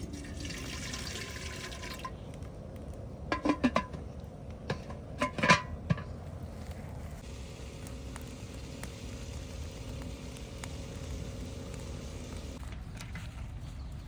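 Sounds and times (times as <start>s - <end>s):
faint steady hum: 0.0s - 12.8s
fire crackling and popping: 0.2s - 13.0s.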